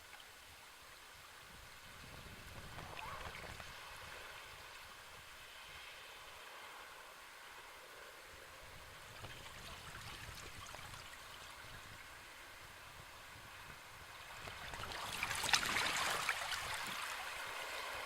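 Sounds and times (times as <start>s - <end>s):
sea waves washing: 2.4s - 18.0s.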